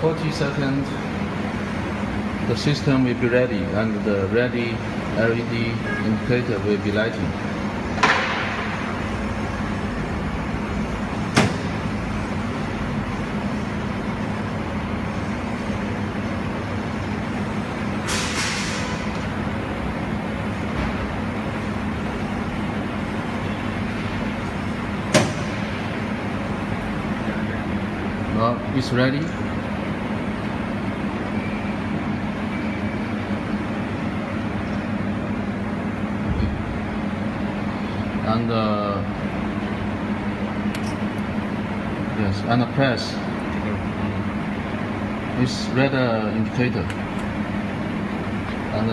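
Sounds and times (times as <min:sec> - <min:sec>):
cooling fans humming: 0:00.0 - 0:48.9.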